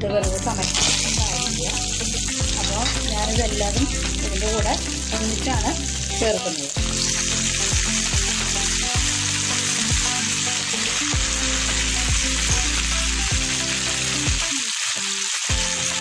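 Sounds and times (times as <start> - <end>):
vegetables sizzling in oil: 0.2 - 16.0.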